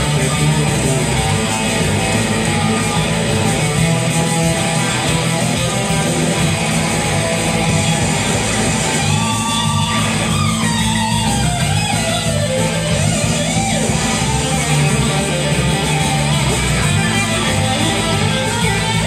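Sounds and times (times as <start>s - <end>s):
surf electric guitar melody: 0.0s - 19.0s.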